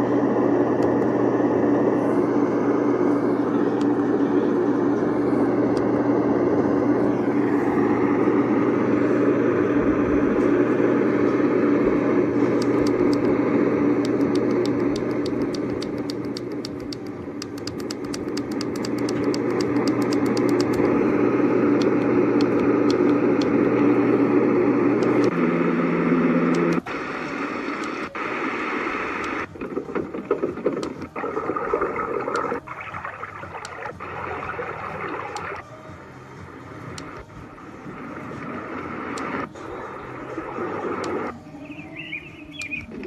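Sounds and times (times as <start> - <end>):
white noise machine rushing: 0.0 - 43.0.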